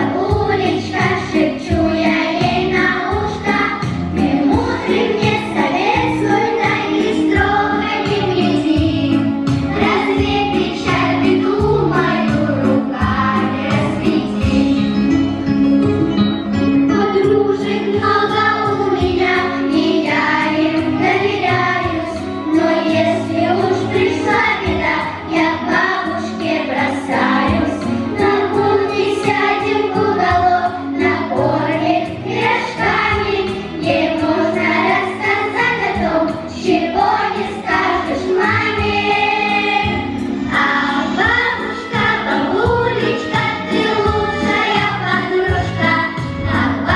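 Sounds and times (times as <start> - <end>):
children's choir singing: 0.0 - 15.5, 16.2 - 46.9
musical accompaniment: 0.0 - 46.9.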